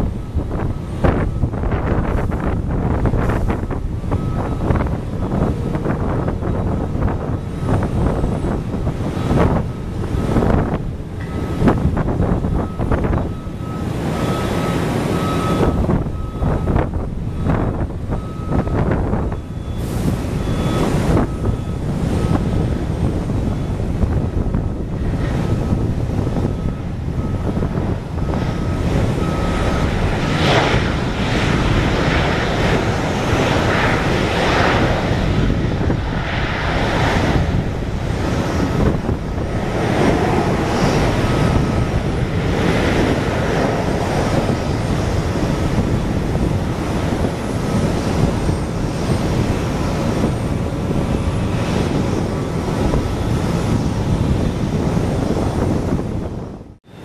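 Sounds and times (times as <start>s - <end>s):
jet engine roar: 0.0s - 57.0s
wind buffeting microphone: 0.0s - 57.0s.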